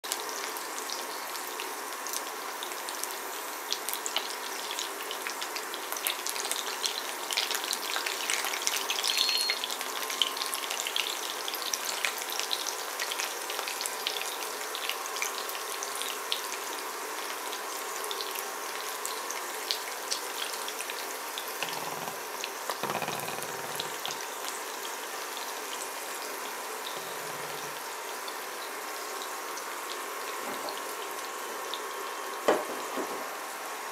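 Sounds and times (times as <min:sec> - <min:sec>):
oil sizzling and crackling: 0:00.1 - 0:33.9.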